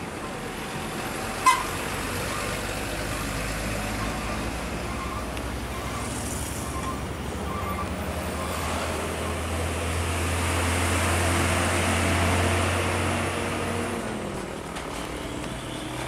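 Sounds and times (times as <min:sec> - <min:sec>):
road traffic: 0:00.0 - 0:16.0
truck engine rumble: 0:00.0 - 0:16.0
tyre and road noise: 0:00.0 - 0:16.0.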